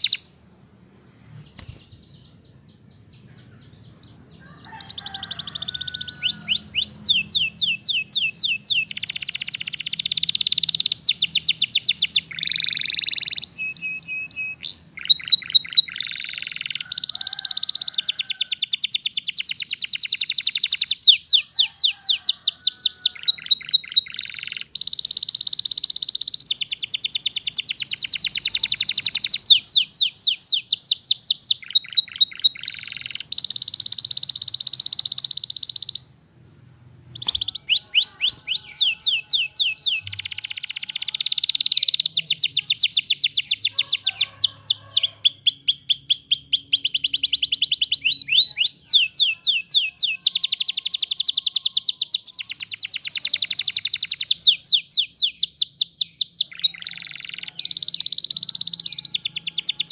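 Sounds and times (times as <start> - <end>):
canary singing trills: 0.0 - 0.4, 1.4 - 36.3, 37.1 - 59.9.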